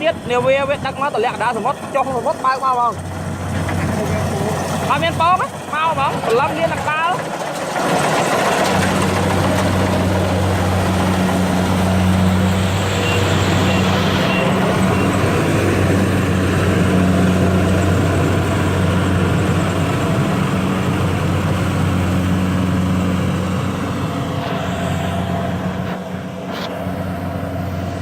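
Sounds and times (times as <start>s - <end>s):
heavy engine humming: 0.0s - 28.0s.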